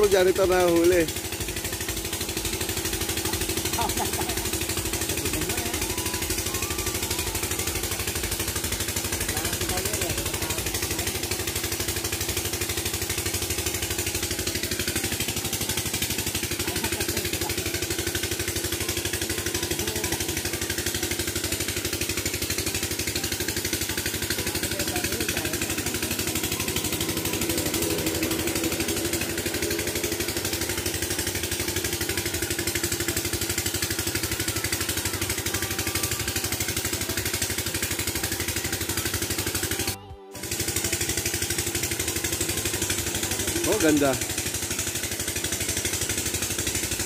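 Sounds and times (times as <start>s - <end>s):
small engine running: 0.0s - 47.0s.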